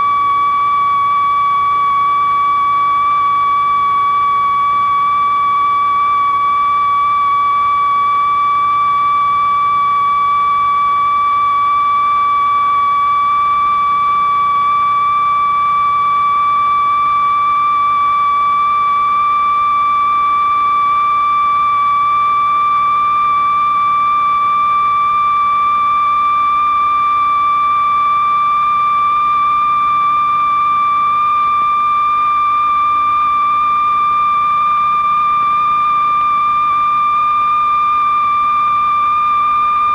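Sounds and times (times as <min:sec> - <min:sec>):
rising sine-wave tone: 0:00.0 - 0:39.9.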